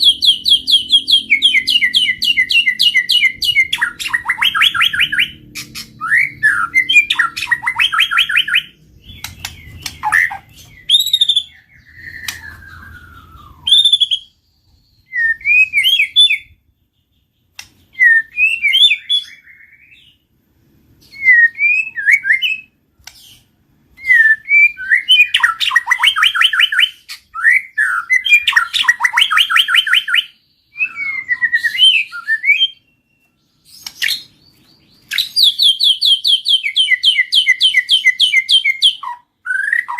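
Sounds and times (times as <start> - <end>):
bird singing trills and whistles: 0.0 - 20.3, 21.0 - 39.9.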